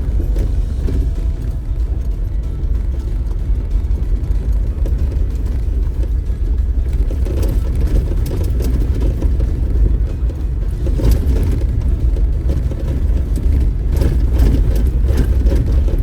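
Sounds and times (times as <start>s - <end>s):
off-road vehicle rumbling: 0.0s - 16.0s
rattles and knocks: 0.0s - 16.0s.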